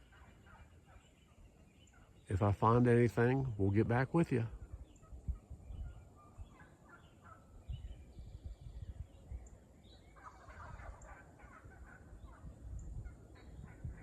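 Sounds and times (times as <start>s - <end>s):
wild turkeys calling: 0.0s - 14.0s.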